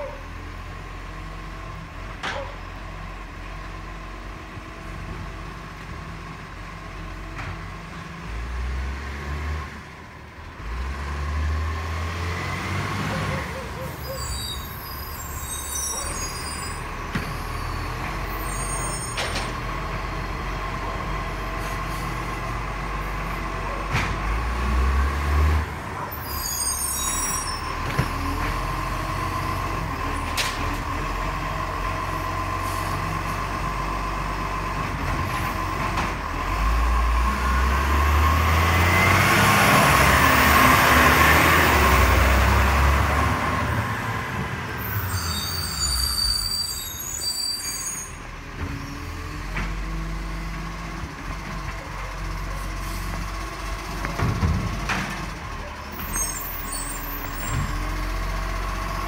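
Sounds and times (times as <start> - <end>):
garbage truck diesel engine whining: 0.0 - 59.0.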